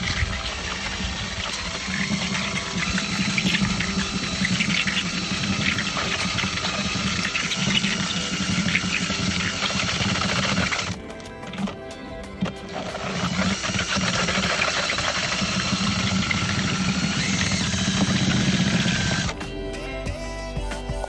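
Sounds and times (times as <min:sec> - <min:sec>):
drill motor hum: 0:00.0 - 0:11.8, 0:12.4 - 0:19.4.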